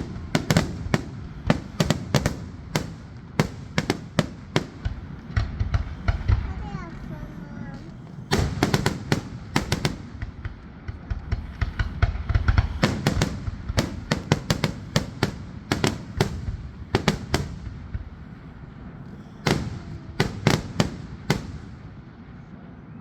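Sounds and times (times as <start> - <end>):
fireworks cracks and bangs: 0.0 - 22.6
low rumble: 0.0 - 23.0.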